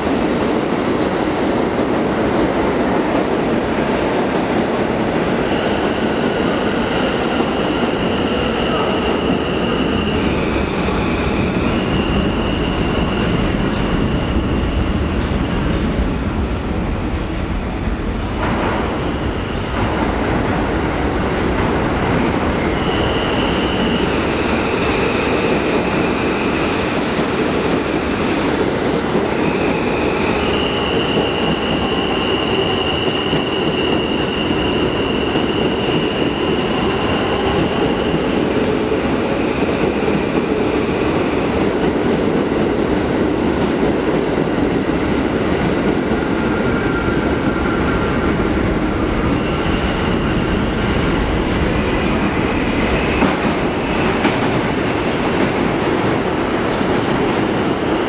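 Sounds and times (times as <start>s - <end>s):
subway train wheels rumbling: 0.0s - 58.0s.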